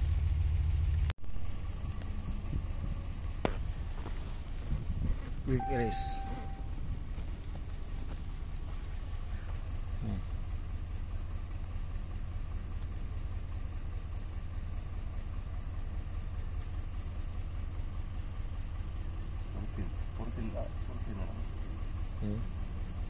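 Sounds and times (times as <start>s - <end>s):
engine idling low rumble: 0.0s - 23.0s.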